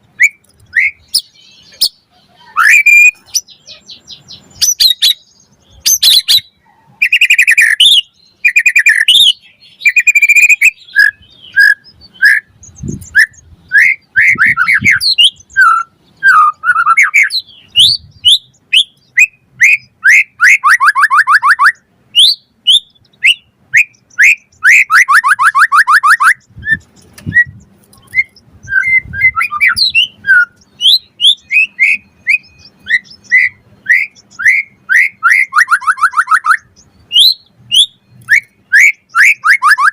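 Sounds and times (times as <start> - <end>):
bird singing whistled notes: 0.2 - 39.9.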